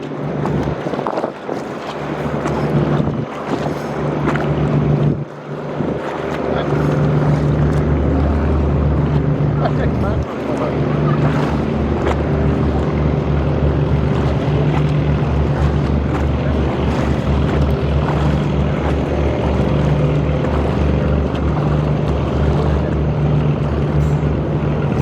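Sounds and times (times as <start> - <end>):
boat engine throbbing hum: 0.0 - 25.0
rushing water: 0.0 - 25.0
wind: 0.0 - 25.0.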